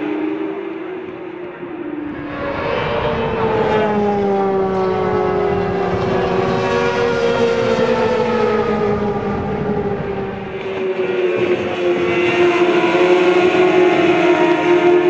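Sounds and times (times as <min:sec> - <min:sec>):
sport bike engines at high revs: 0:00.8 - 0:15.0.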